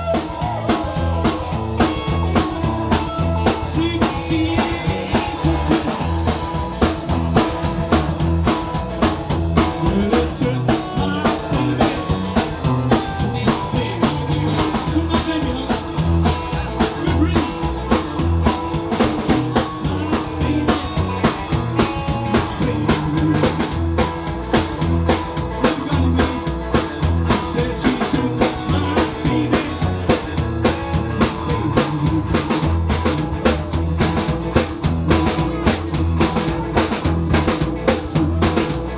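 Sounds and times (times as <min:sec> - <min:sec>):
drum kit beat: 0:00.0 - 0:38.9
electric guitar: 0:00.0 - 0:38.9
upright double bass: 0:00.0 - 0:38.9.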